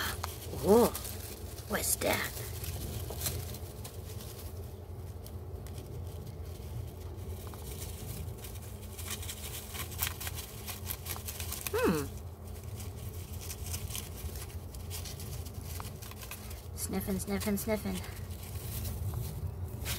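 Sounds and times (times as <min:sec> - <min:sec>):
rustling of dry grass and leaves: 0:00.0 - 0:19.9
steady low hum: 0:00.0 - 0:19.9.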